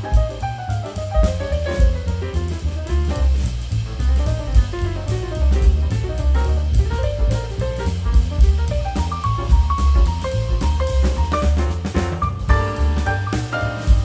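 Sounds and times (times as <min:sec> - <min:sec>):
jazz music: 0:00.0 - 0:14.0.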